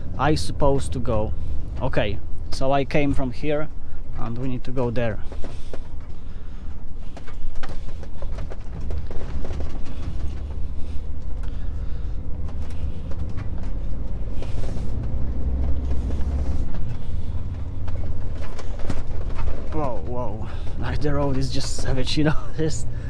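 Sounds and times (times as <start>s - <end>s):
truck cab creaking and rattling: 0.0s - 23.0s
truck engine and road rumble: 0.0s - 23.0s.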